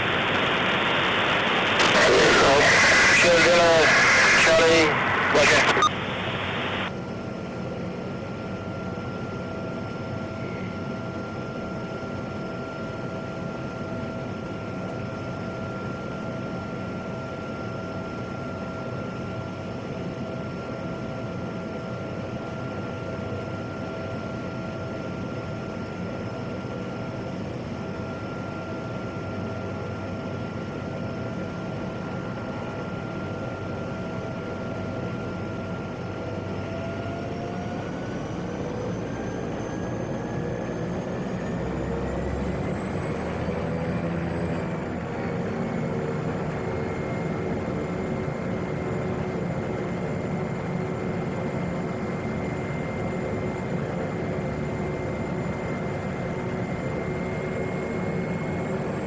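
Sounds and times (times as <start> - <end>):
turboprop engine whine: 0.0 - 59.0.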